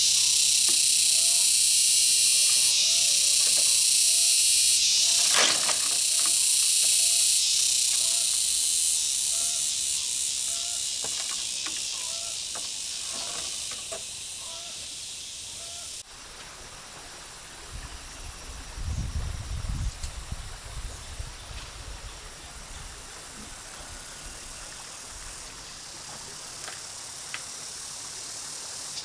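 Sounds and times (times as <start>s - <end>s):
high-pitched buzzing hiss: 0.0s - 29.0s.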